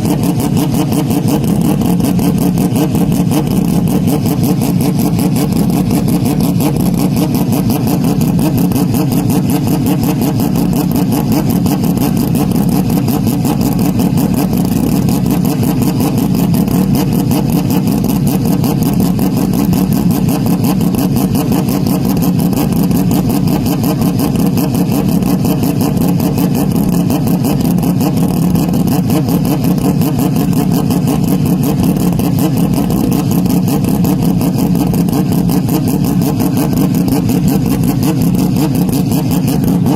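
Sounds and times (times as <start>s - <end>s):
distorted engine-like drone: 0.0s - 39.9s.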